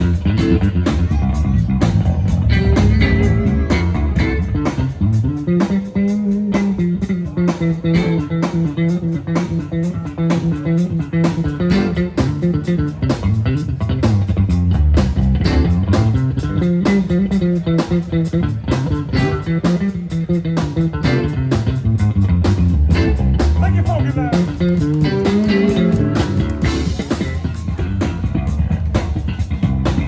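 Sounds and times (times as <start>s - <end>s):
steady drumbeat: 0.0s - 13.5s, 18.2s - 30.0s
blues music: 0.0s - 30.0s
electric bass line: 0.0s - 30.0s.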